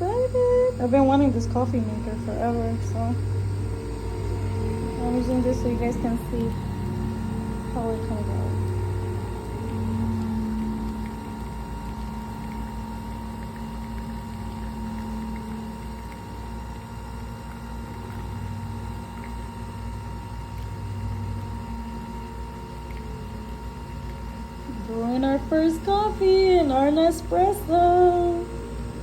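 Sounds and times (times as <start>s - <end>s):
coffee machine pump hum: 0.0s - 29.0s
coffee running into cup: 0.0s - 29.0s.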